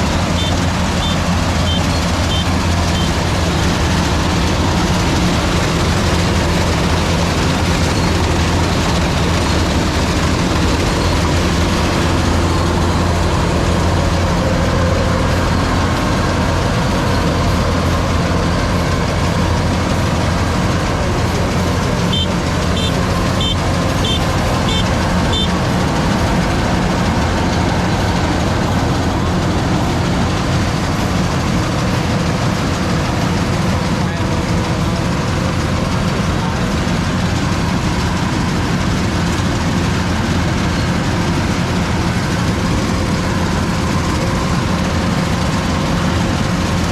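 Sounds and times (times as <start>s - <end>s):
heavy engine running: 0.0s - 46.9s.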